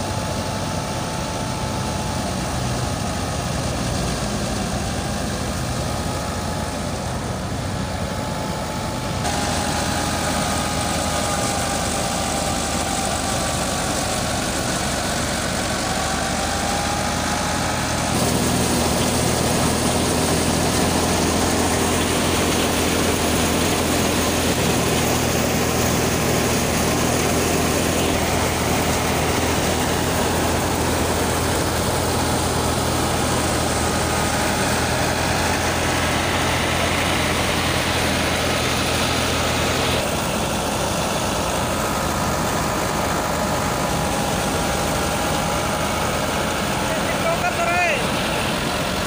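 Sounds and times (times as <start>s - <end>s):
thresher machine noise: 0.0s - 49.0s
tractor engine running: 0.0s - 49.0s.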